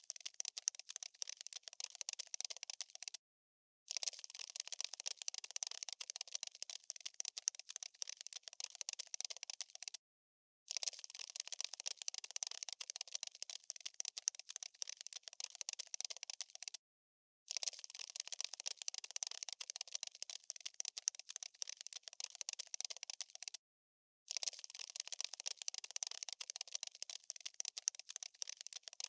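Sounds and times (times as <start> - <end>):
cockroach skittering clicks: 0.0 - 3.2, 3.9 - 10.0, 10.7 - 16.8, 17.5 - 23.6, 24.3 - 29.0.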